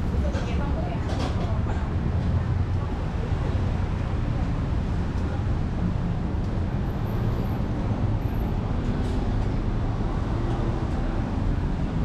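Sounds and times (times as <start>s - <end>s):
motor traffic rumble: 0.0s - 12.0s.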